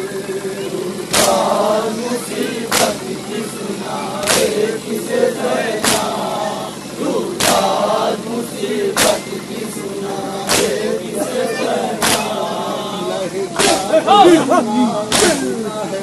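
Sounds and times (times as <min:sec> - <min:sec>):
male voices chanting: 0:00.0 - 0:16.0
men beating chests: 0:01.0 - 0:15.8.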